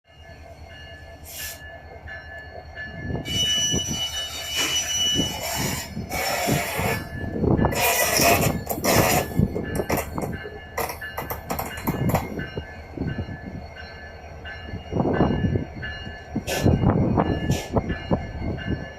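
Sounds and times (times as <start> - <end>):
train wheels squealing: 0.1 - 18.9
train clattering over rails: 0.8 - 18.9.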